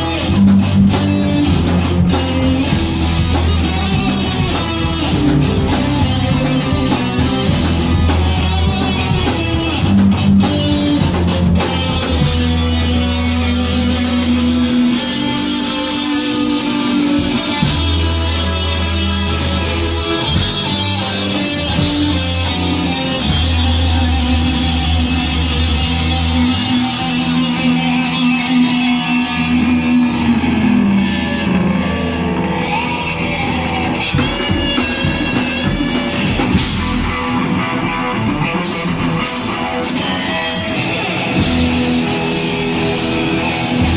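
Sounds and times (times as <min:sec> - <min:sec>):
drums crashing: 0:00.0 - 0:29.0, 0:29.7 - 0:43.9
distorted electric guitars: 0:00.0 - 0:43.9
low bass notes: 0:00.0 - 0:43.9.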